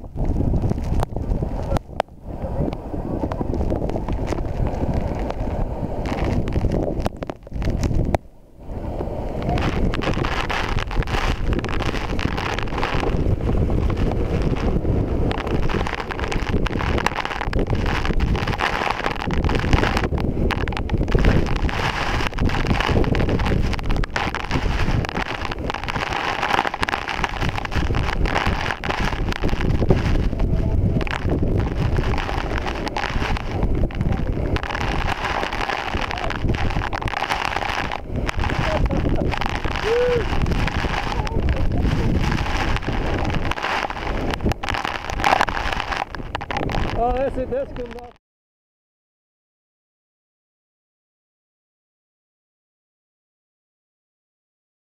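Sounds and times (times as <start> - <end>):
droplets ticking on camera: 0.0 - 8.3, 9.0 - 48.2
wind buffeting microphone: 0.0 - 48.2
waterfall rushing: 1.4 - 47.4.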